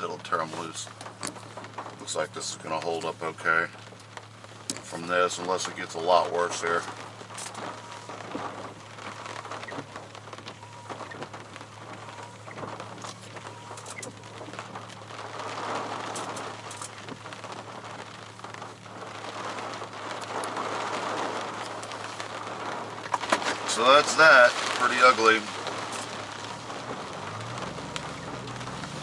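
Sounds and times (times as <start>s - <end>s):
rain hissing with drop ticks: 0.0s - 29.0s.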